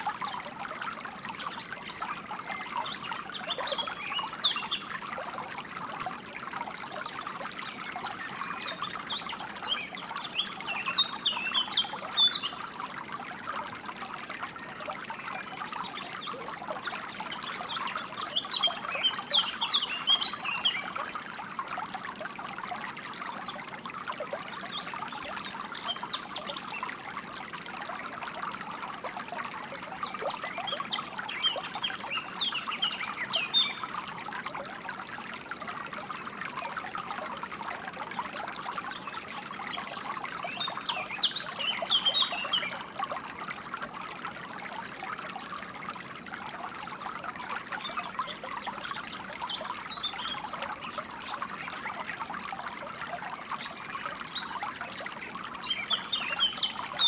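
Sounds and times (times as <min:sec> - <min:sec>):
water trickling in stream: 0:00.0 - 0:57.0.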